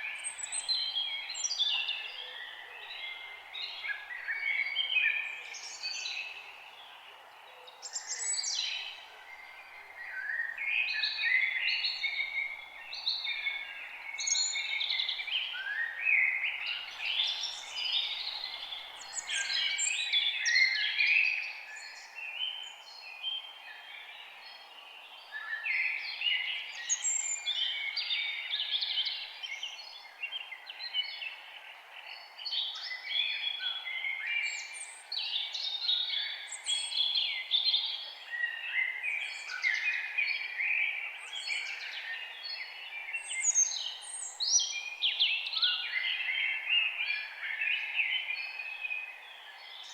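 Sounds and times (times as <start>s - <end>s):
songbirds singing and chirping: 0.0s - 49.9s.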